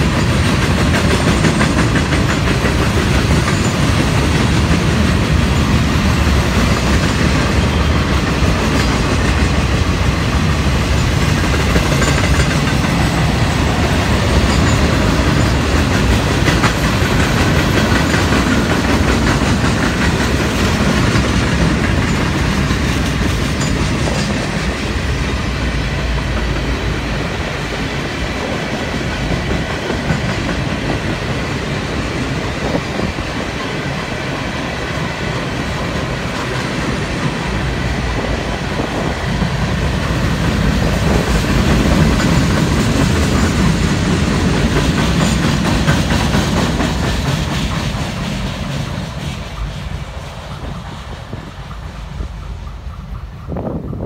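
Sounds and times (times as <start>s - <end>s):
clickety-clack over rail joints: 0.0s - 54.0s
freight train cars rolling past: 0.0s - 54.0s.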